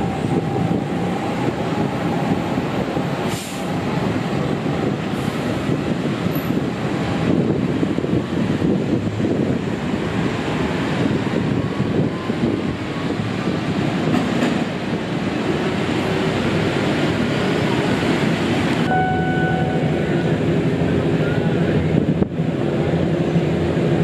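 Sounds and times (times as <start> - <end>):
train running on rails: 0.0 - 24.0.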